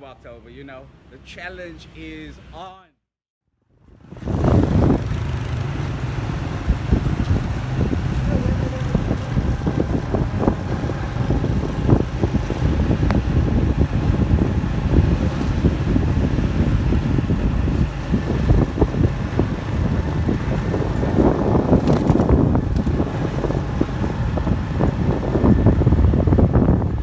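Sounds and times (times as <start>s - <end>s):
road traffic rumble: 0.0s - 2.7s, 3.8s - 27.0s
wind buffeting microphone: 3.9s - 27.0s.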